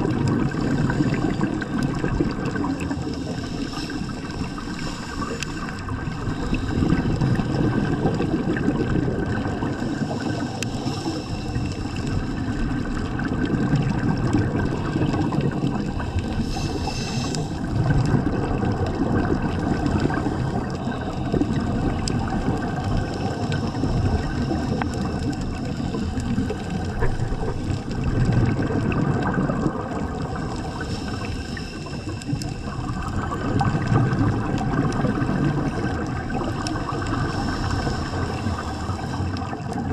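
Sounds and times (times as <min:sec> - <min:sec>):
underwater regulator bubbling: 0:00.0 - 0:39.9.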